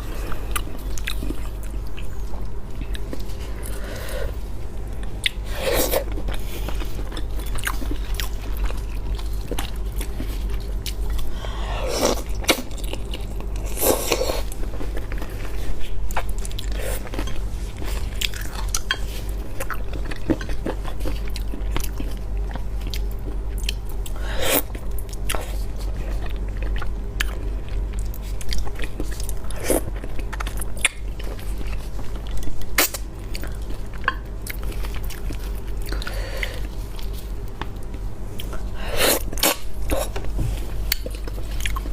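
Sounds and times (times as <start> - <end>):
person chewing and crunching: 0.0 - 41.9.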